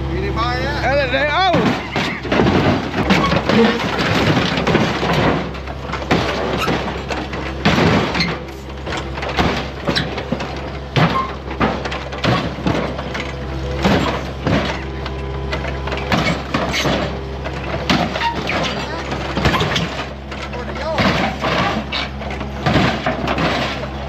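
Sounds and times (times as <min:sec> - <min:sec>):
excavator engine running: 0:00.0 - 0:24.0
metal and glass crunching: 0:01.4 - 0:24.0.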